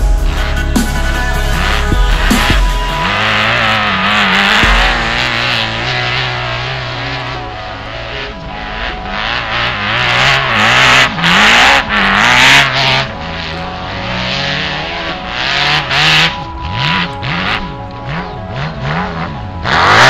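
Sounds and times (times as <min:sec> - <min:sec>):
off-road buggy engine revving: 0:00.0 - 0:20.0
wheels spraying snow: 0:00.2 - 0:20.0.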